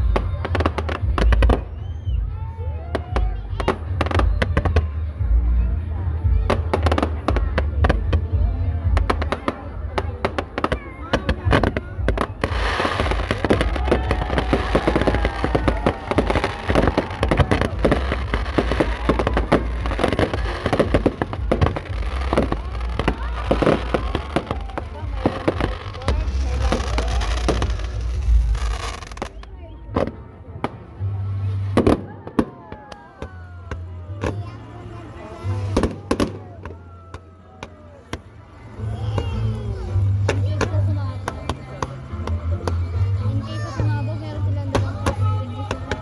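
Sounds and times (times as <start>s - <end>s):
background music: 0.0s - 46.0s
fireworks bangs and crackling: 0.0s - 46.0s.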